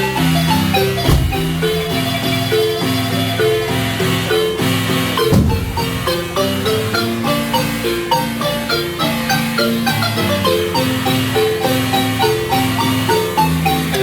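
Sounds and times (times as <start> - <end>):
marimba music: 0.0 - 14.0.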